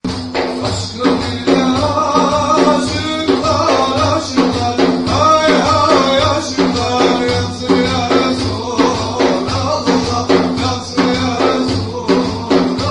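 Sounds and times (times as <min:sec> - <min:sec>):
music with a steady beat: 0:00.0 - 0:12.9.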